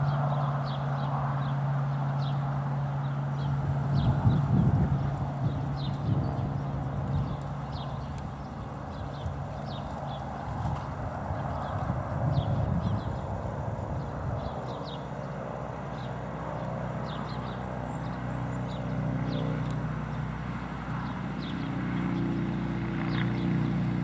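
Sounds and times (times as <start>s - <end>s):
distant engine drone: 0.0s - 24.0s.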